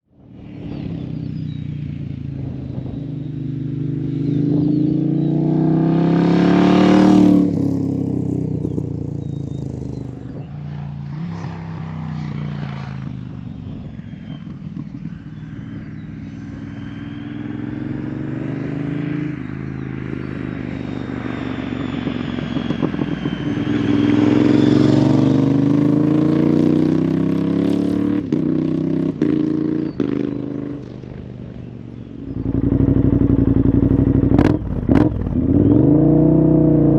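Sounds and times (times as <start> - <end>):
motorcycle engine revving: 2.1 - 10.4, 11.2 - 36.9.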